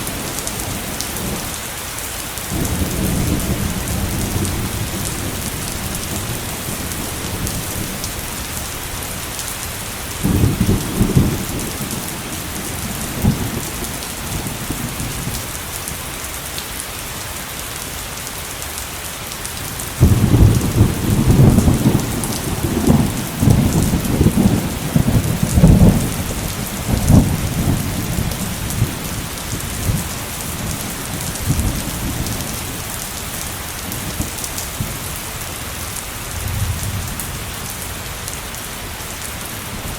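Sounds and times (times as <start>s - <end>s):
thunder rumbling: 0.0s - 1.6s, 2.5s - 16.0s, 19.9s - 38.1s
heavy rain falling: 0.0s - 39.9s.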